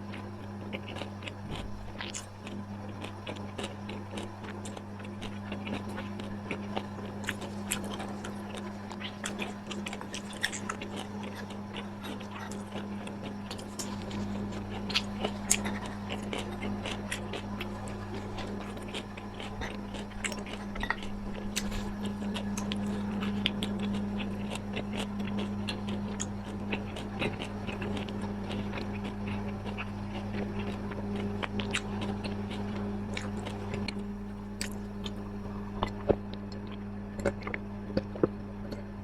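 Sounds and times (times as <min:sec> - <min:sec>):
chewing and biting: 0:00.0 - 0:39.0
low electrical hum: 0:00.0 - 0:39.0.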